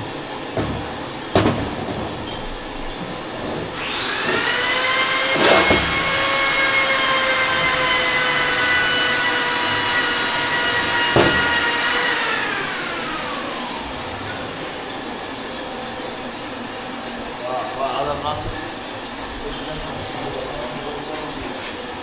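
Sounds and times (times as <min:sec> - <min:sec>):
motor-driven tool whining: 0:00.0 - 0:22.0.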